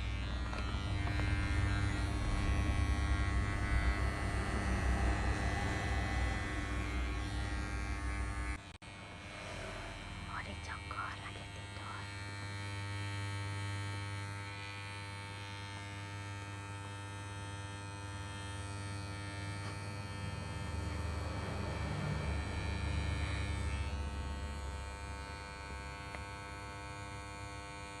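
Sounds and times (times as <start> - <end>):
electric hair clipper humming: 0.0 - 28.0.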